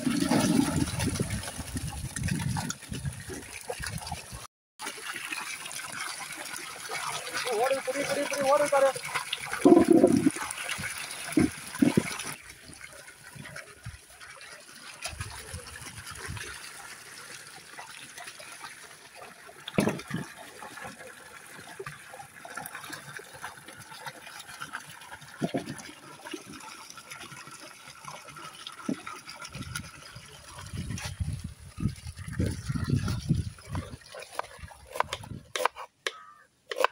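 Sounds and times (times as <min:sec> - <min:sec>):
water pouring into steel basin: 0:00.0 - 0:35.6.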